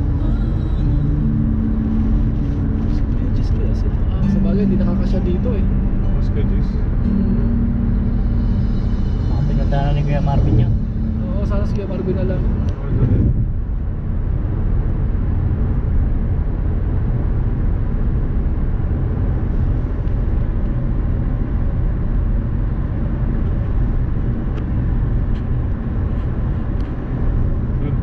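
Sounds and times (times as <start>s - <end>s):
vehicle road and engine rumble: 0.0s - 28.0s.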